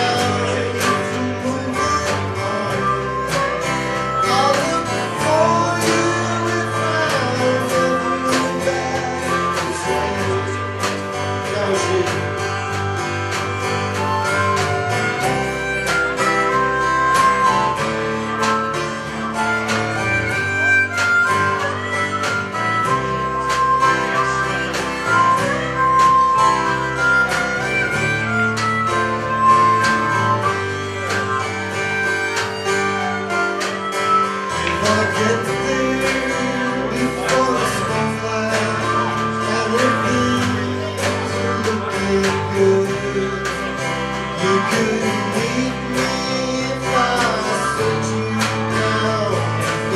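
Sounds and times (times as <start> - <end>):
bass line: 0.0 - 49.9
lead melody notes: 0.0 - 49.9
strummed guitar: 0.0 - 49.9.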